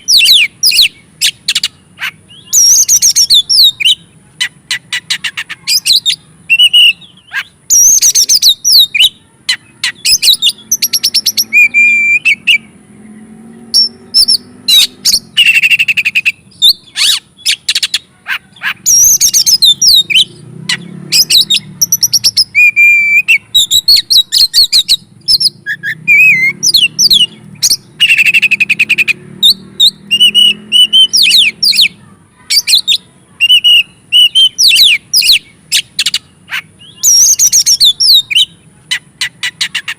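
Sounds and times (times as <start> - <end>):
bird singing whistles and trills: 0.0 - 12.8, 13.6 - 39.9.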